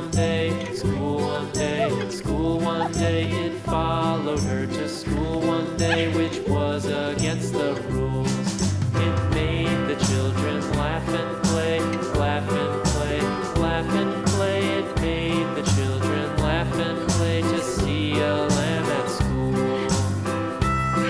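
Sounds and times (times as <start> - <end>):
upbeat country music: 0.0 - 21.0.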